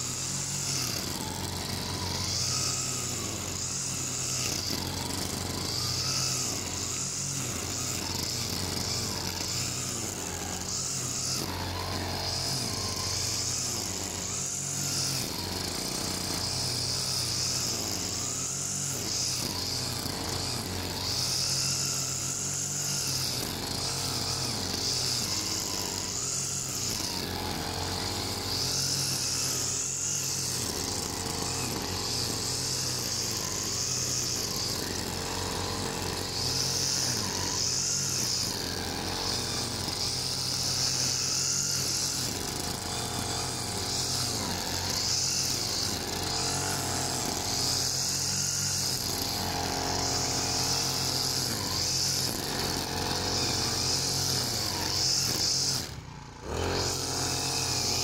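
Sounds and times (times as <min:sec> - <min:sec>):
brush cutter running: 0:00.0 - 0:58.0.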